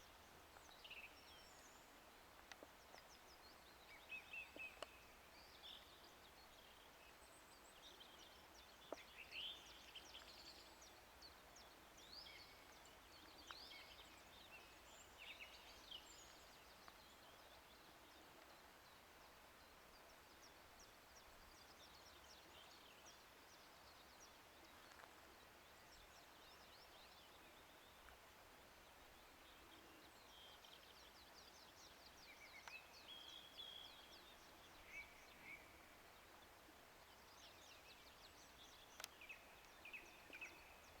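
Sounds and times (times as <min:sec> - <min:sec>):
steady quiet hiss: 0:00.0 - 0:41.0
songbirds chirping and trilling: 0:00.1 - 0:41.0.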